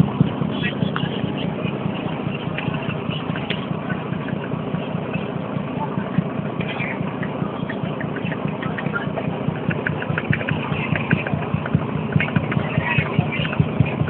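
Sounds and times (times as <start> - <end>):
barge engine running: 0.0 - 14.0.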